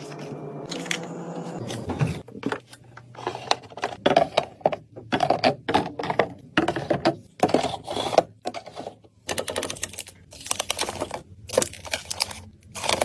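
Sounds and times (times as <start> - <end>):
items clicking and knocking in fridge: 0.0 - 13.0.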